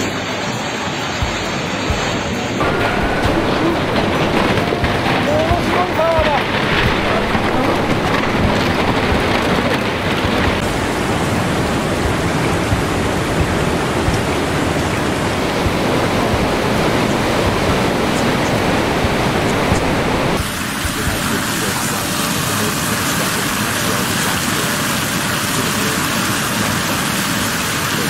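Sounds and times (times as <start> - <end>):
rushing water roar: 0.0 - 28.0.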